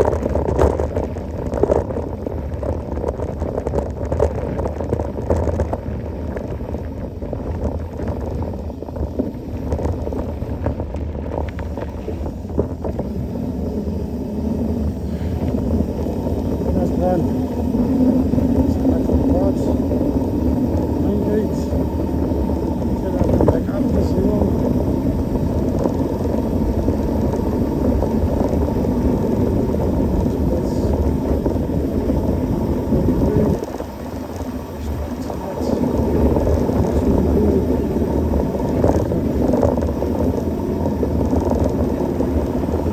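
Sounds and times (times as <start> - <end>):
bike clicking and rattling: 0.0 - 42.9
bike tyres rumbling: 0.0 - 42.9
wind buffeting microphone: 0.0 - 42.9.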